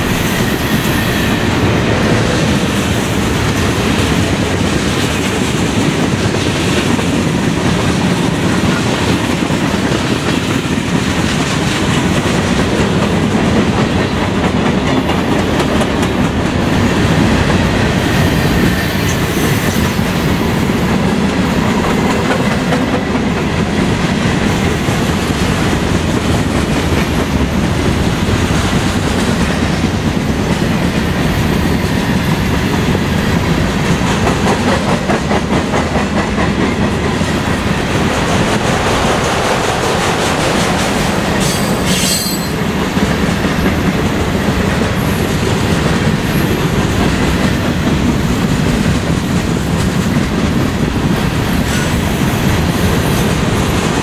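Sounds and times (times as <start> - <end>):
freight train wheels rumbling on rail: 0.0 - 54.0
wheels clickety-clack: 0.0 - 54.0.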